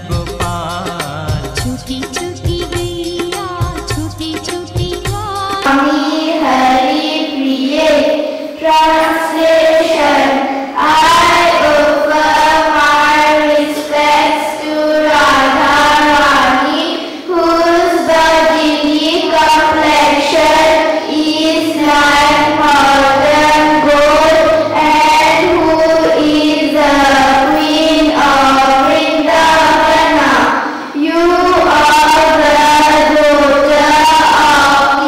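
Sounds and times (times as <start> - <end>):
children singing into microphones: 0.0 - 35.0.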